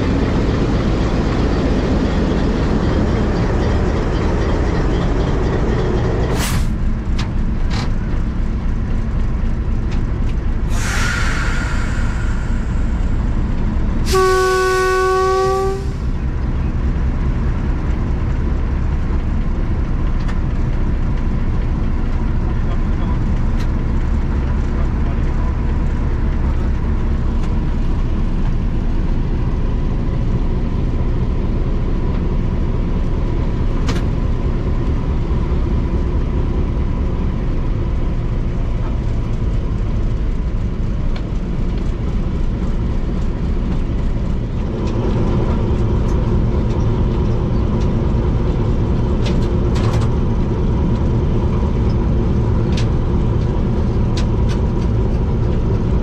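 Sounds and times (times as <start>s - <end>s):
locomotive engine running: 0.0s - 56.0s.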